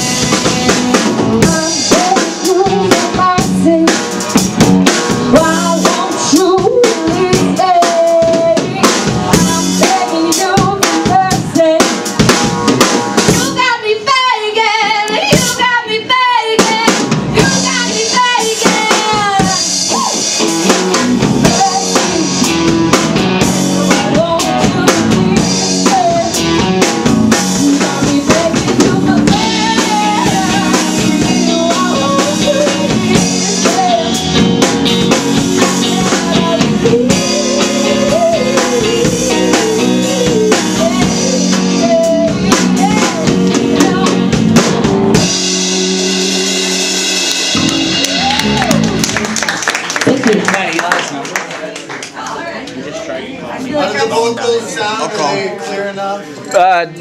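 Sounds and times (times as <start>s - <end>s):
drum kit: 0.0s - 51.0s
live band playing: 0.0s - 52.7s.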